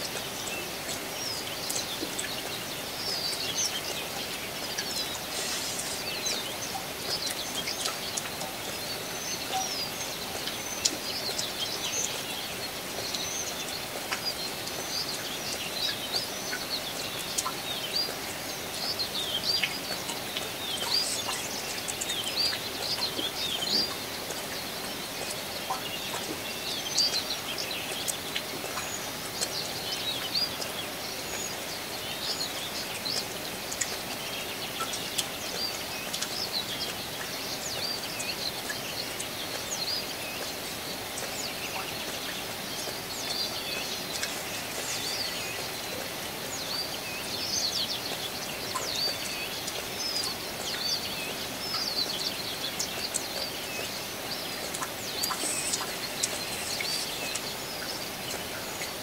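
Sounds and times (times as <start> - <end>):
rain hissing: 0.0 - 59.0
small birds chirping: 0.0 - 59.0.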